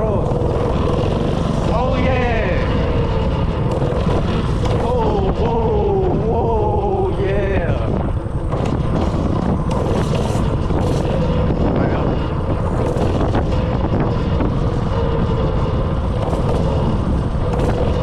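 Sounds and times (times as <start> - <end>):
mini bike engine running: 0.0 - 18.0
wind buffeting microphone: 0.0 - 18.0.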